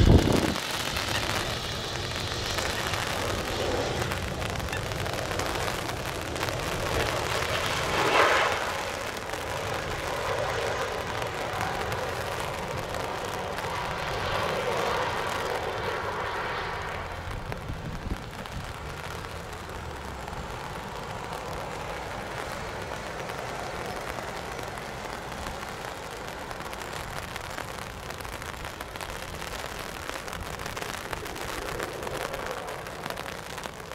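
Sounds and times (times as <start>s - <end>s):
jet engines rushing: 0.0s - 33.9s.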